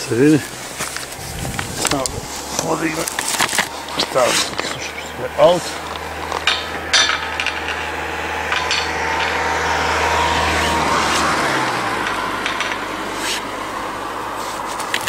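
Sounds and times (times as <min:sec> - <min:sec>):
car engine running: 0:00.0 - 0:15.0
car rubbing and handling noise: 0:00.0 - 0:15.0.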